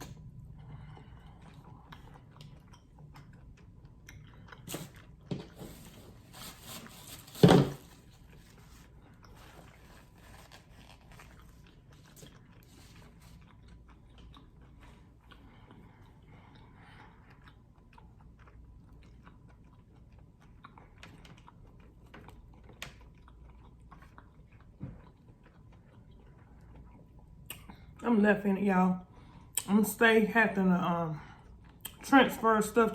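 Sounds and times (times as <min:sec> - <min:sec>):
chewing and biting food: 0:00.0 - 0:06.6, 0:07.2 - 0:28.0.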